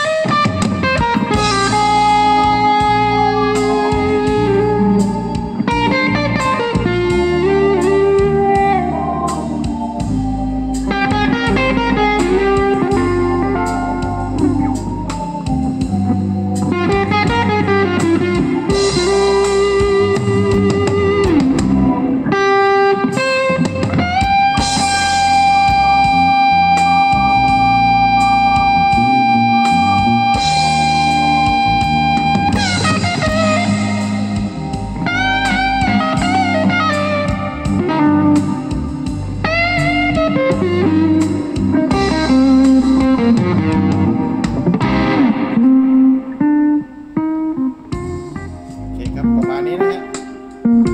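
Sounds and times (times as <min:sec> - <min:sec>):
guitar-led music through speakers: 0:00.0 - 0:50.9.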